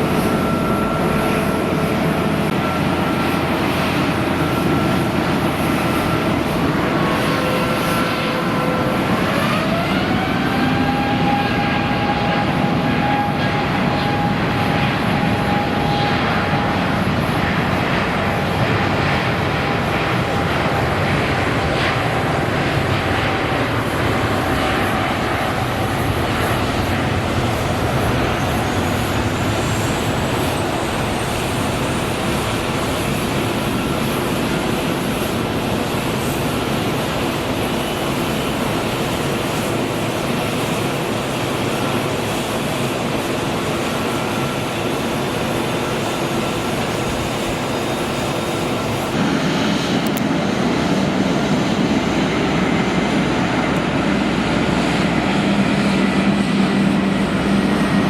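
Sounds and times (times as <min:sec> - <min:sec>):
high engine whine: 0:00.0 - 0:58.0
jet engines roaring: 0:00.0 - 0:58.0.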